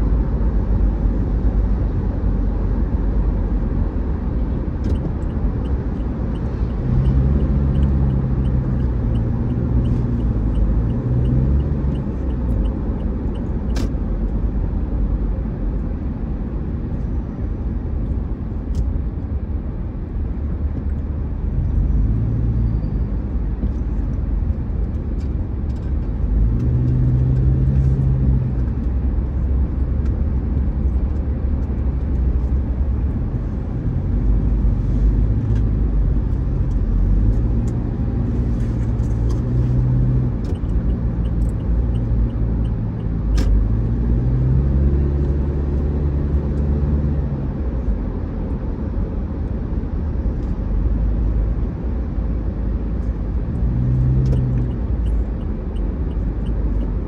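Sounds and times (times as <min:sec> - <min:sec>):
tyres and engine rumble: 0:00.0 - 0:57.0.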